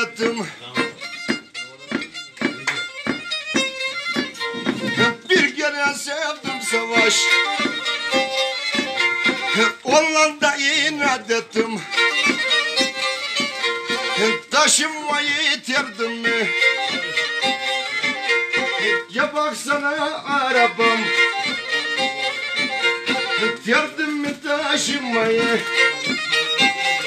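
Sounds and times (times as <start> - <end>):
bowed fiddle playing folk tune: 0.0 - 27.0.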